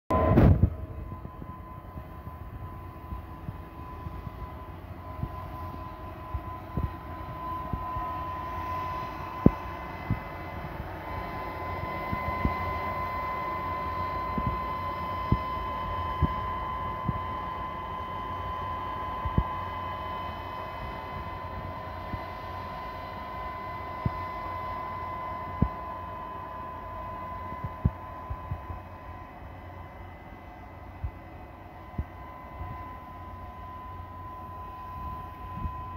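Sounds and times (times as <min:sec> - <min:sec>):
street sweepers humming and whining: 0:00.1 - 0:35.9.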